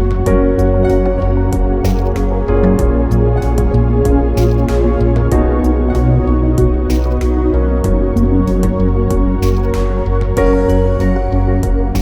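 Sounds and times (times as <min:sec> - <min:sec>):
background music with bass: 0:00.0 - 0:12.0
percussion hits: 0:00.0 - 0:12.0.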